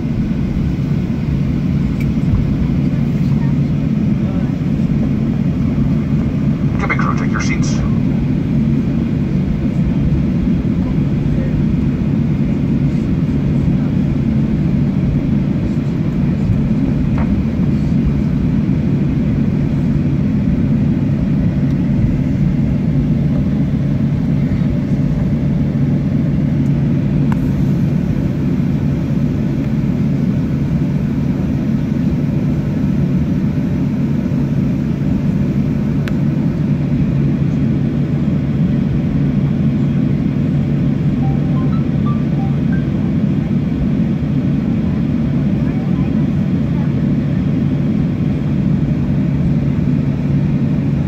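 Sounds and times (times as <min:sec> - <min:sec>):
airliner cabin low rumble: 0:00.0 - 0:51.0
jet engine hum: 0:00.0 - 0:51.0.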